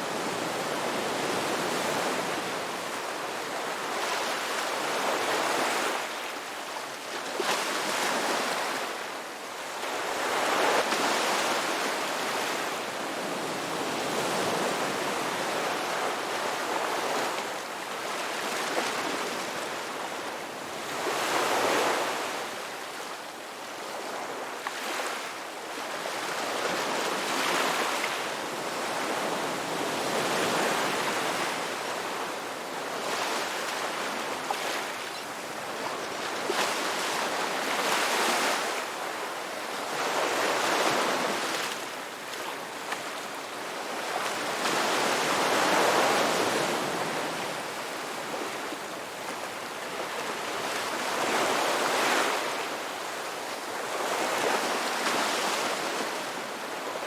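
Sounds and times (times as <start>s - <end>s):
ocean waves washing onto beach: 0.0s - 57.0s.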